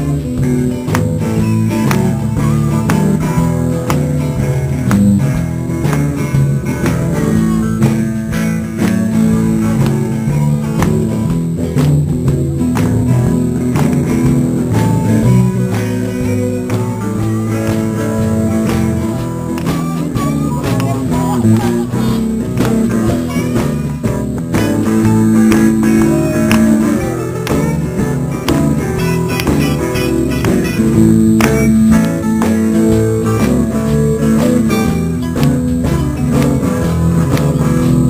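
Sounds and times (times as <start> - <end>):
drum kit: 0.0 - 38.0
electric guitars: 0.0 - 38.0.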